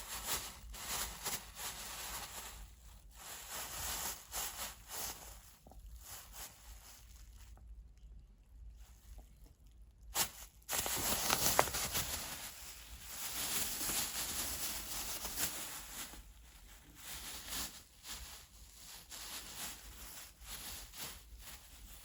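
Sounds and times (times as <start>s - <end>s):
plastic bag rustling and crinkling: 0.0s - 8.0s, 8.6s - 22.0s.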